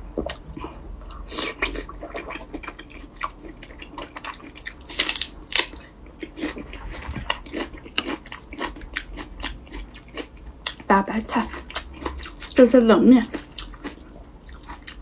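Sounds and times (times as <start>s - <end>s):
wet chewing: 0.2s - 12.6s, 13.2s - 15.0s.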